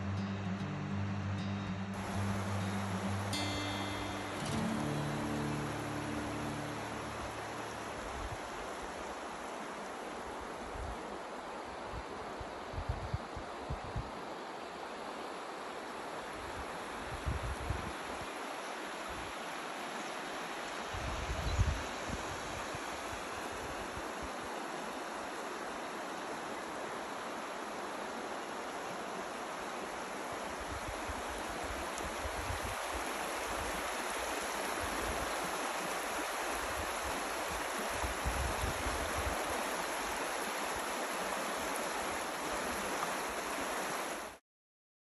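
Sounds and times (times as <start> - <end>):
river water babbling over stones: 1.9 - 44.4.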